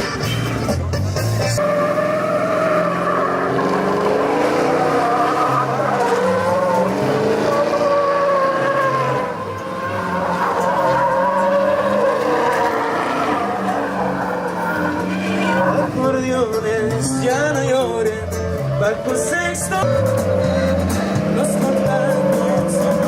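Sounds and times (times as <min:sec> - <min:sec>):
truck engine running: 0:00.0 - 0:23.0
truck tyres squealing: 0:00.0 - 0:23.0.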